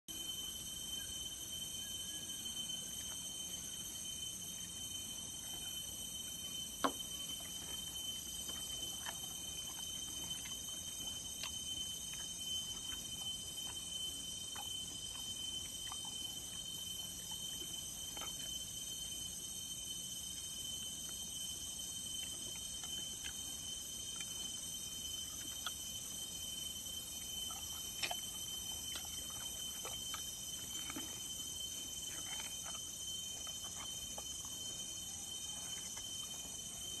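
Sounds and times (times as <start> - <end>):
insect chorus drone: 0.1 - 37.0.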